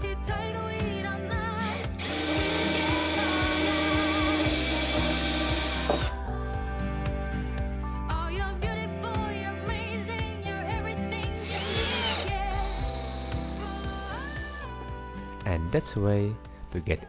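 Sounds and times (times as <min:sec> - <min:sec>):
background music with bass: 0:00.0 - 0:17.0.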